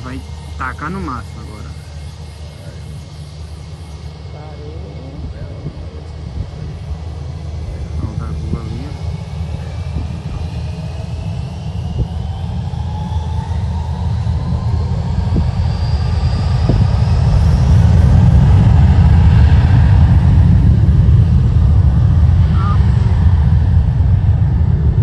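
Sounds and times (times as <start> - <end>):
jet engines heavy rumble: 0.0 - 25.0.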